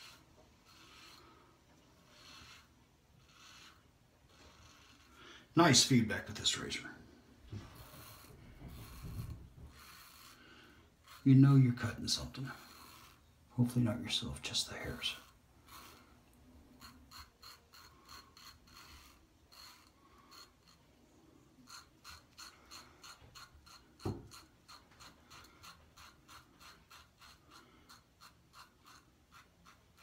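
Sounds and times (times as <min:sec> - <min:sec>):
razor scraping stubble: 0:00.0 - 0:06.8, 0:07.5 - 0:30.0.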